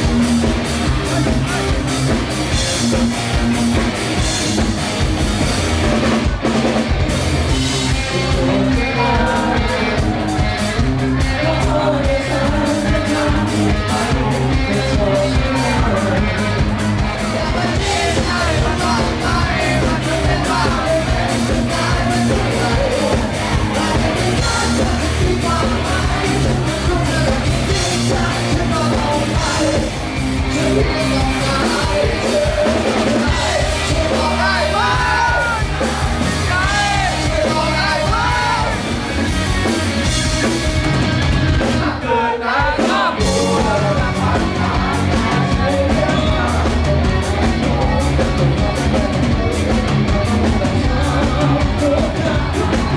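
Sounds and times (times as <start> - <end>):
live rock band playing: 0.0 - 52.9
male singer: 7.8 - 38.8, 41.5 - 52.9.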